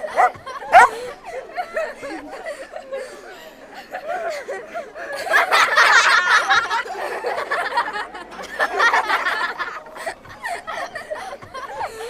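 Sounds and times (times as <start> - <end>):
people laughing and giggling: 0.0 - 12.0.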